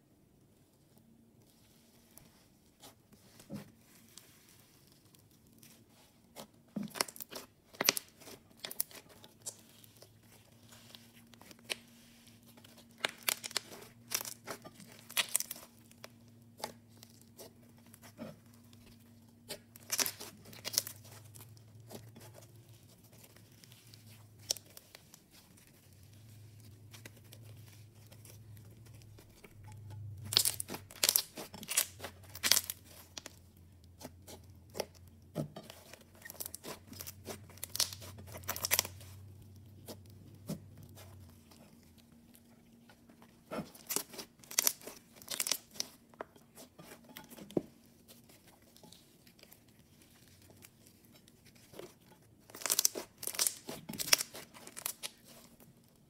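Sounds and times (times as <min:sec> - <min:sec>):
slime crackling and popping: 0:04.1 - 0:42.5, 0:43.4 - 0:56.0.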